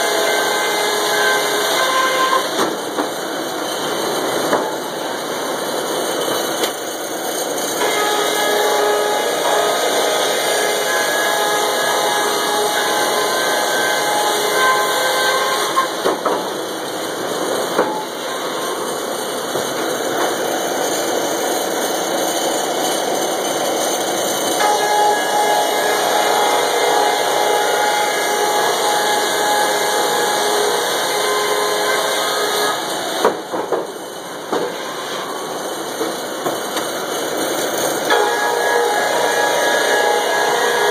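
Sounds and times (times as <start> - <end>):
machine whining tone: 0.0 - 16.5, 17.1 - 40.9
sawmill machinery din: 0.0 - 40.9.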